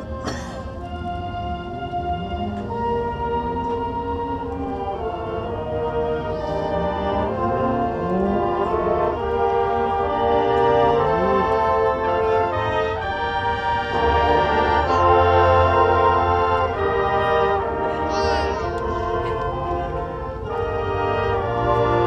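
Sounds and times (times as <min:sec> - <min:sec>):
marching band brass playing chords: 0:00.0 - 0:22.0.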